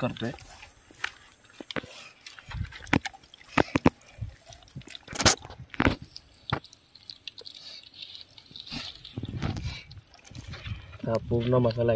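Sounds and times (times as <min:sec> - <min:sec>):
hands squelching wet marinade: 0:00.0 - 0:11.9.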